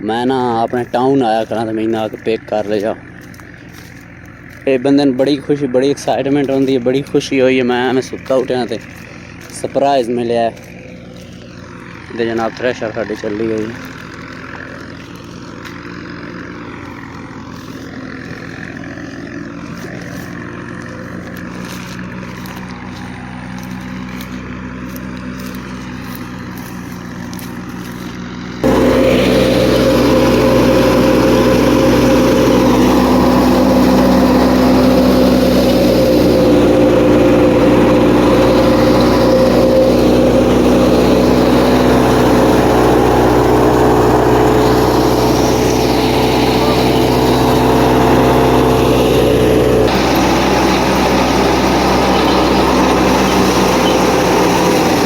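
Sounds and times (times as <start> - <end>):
tractor and thresher drone: 0.0 - 55.0.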